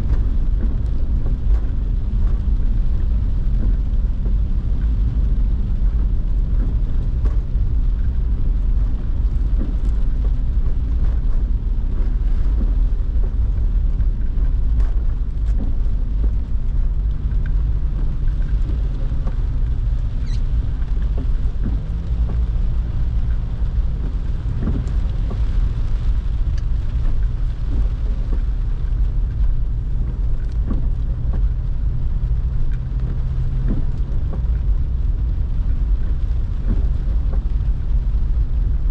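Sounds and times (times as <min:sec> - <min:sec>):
car engine and road rumble: 0:00.0 - 0:38.9
light ticks of rain: 0:00.0 - 0:38.9.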